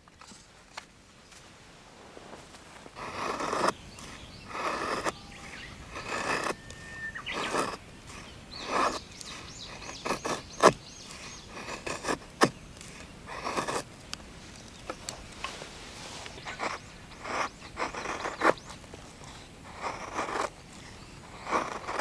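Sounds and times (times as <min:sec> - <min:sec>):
rasping strokes on firewood: 0:03.0 - 0:22.0.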